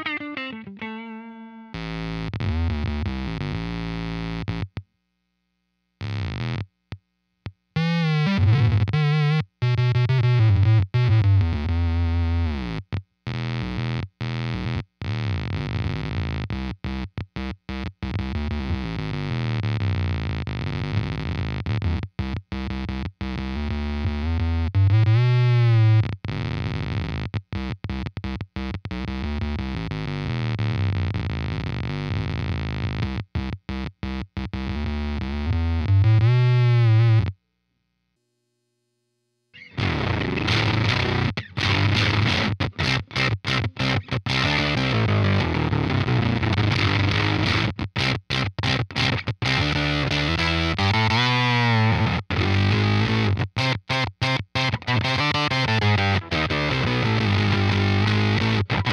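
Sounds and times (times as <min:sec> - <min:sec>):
buzzy synth guitar tones: 0:00.0 - 0:04.8, 0:06.0 - 0:06.7, 0:07.7 - 0:37.4, 0:39.5 - 0:58.9.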